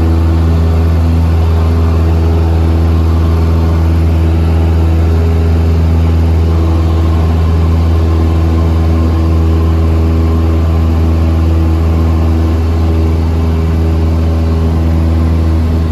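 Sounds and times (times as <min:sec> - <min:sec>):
airplane engine and propeller droning: 0:00.0 - 0:15.9.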